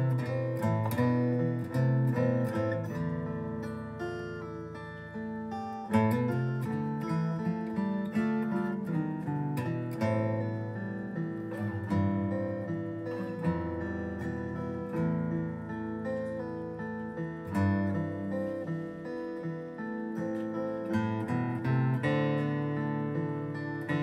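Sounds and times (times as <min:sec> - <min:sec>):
acoustic guitar plucked lines: 0:00.0 - 0:24.0.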